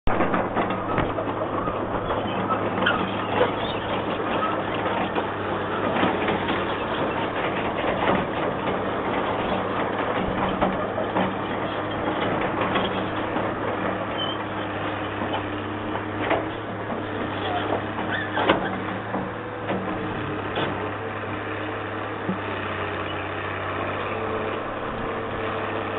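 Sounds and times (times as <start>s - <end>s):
knocks and clanks: 0.1s - 22.7s
diesel engine humming: 0.1s - 25.9s.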